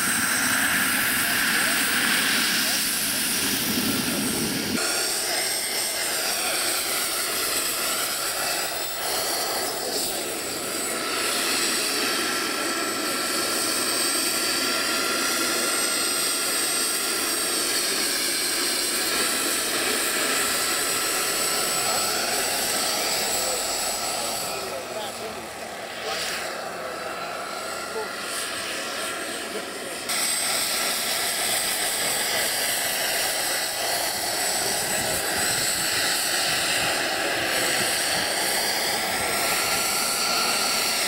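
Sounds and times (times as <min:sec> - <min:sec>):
model helicopter turbine whine: 0:00.0 - 0:41.0.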